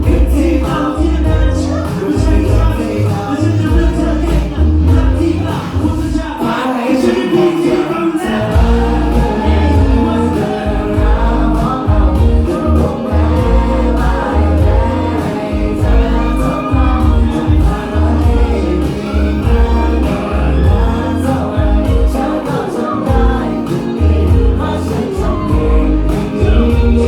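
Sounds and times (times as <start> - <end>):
heavy pulsing bass: 0.0 - 6.0, 8.6 - 22.3, 23.1 - 27.0
live band music: 0.0 - 27.0
person singing: 0.0 - 27.0.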